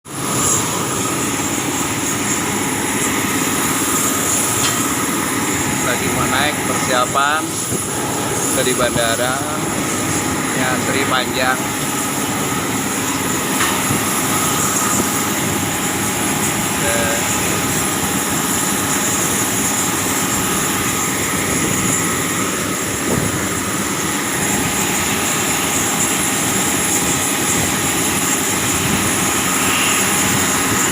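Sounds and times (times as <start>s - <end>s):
airliner engines rushing: 0.1s - 30.9s
high-pitched whine: 0.1s - 30.9s.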